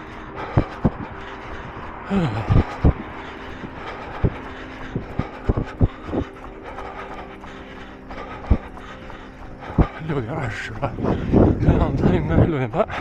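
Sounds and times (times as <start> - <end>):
road traffic hum: 0.0 - 11.9.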